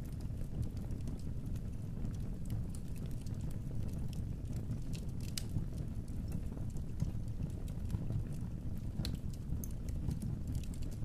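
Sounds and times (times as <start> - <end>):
fire crackles and pops: 0.0 - 11.0
fire flames rumbling: 0.0 - 11.0.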